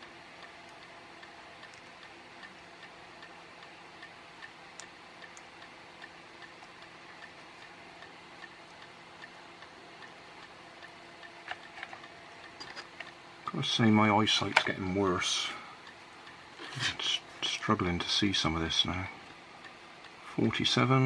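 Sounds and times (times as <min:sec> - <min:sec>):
faint regular ticking: 0:00.0 - 0:21.0
low steady hum: 0:00.0 - 0:21.0.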